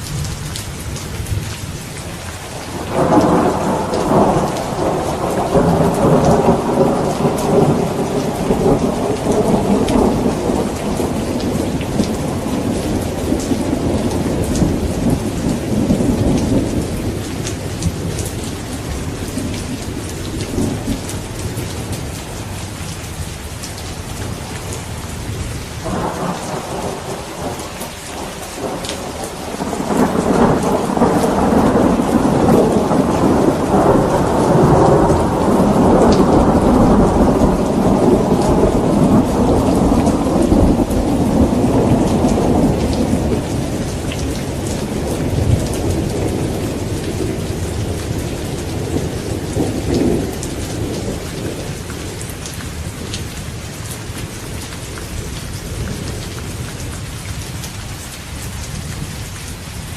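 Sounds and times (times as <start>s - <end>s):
steady rain falling: 0.0s - 59.9s
rolling thunder rumble: 2.6s - 22.6s, 24.1s - 53.4s.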